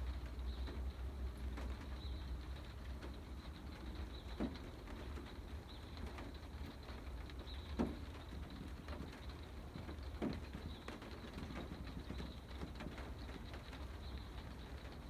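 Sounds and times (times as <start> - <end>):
rain pattering on camper roof: 0.0 - 15.0.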